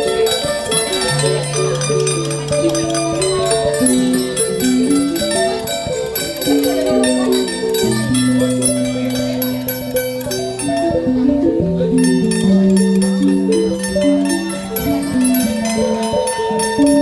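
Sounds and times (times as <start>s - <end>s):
gamelan metallophone runs: 0.0s - 17.0s.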